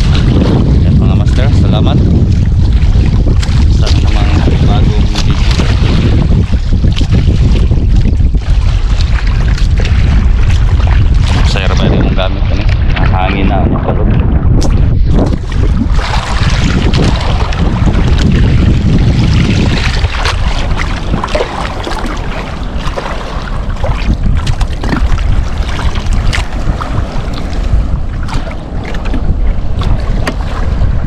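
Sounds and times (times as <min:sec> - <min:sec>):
steady low rumble: 0:00.0 - 0:31.0
waves slapping boat hull: 0:00.0 - 0:31.0
wind buffeting microphone: 0:00.0 - 0:31.0.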